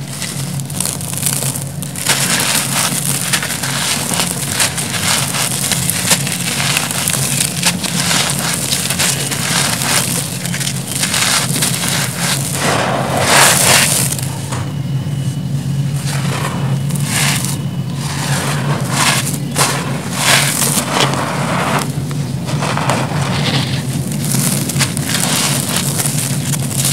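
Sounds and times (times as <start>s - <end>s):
hands crushing concrete: 0.0s - 14.3s, 16.9s - 26.9s
crumbs falling on heap: 0.0s - 14.7s, 16.0s - 26.9s.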